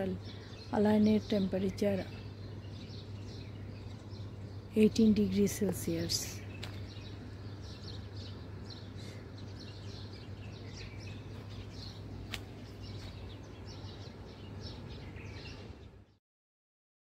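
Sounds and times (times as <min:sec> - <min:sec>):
steady low hum: 0:00.0 - 0:16.1
small birds chirping: 0:00.0 - 0:16.2.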